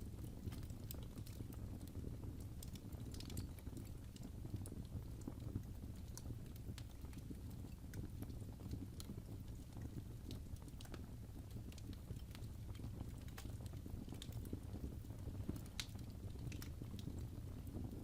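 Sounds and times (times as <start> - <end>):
burning wood crackling: 0.0 - 18.0
fire rumbling: 0.0 - 18.0.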